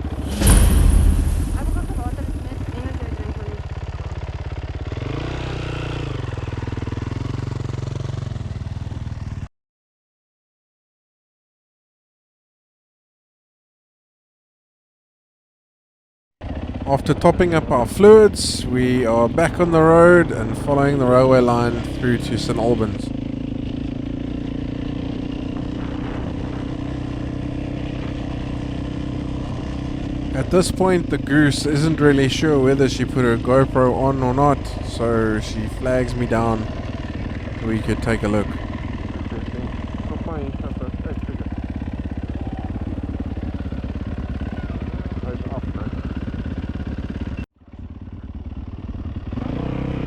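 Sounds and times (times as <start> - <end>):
motorcycle engine running: 0.0 - 9.5, 16.4 - 50.0.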